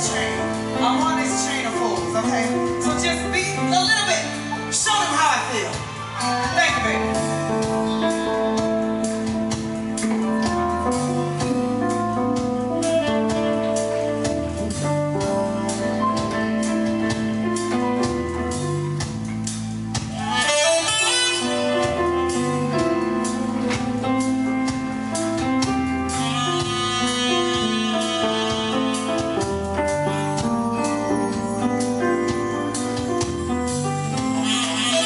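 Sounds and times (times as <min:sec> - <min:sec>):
soul band music: 0:00.0 - 0:35.0.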